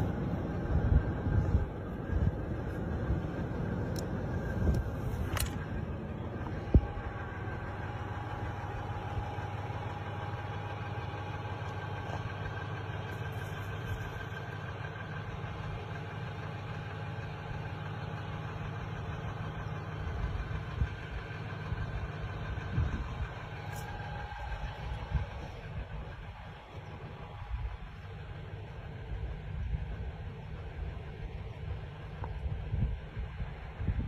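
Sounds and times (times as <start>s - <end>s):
engine idling hum: 0.0s - 34.0s
faint steady tones: 0.0s - 34.0s.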